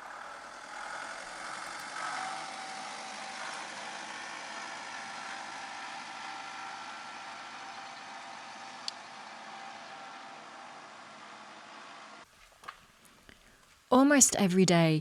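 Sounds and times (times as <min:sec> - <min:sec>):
engine humming: 0:00.0 - 0:13.5.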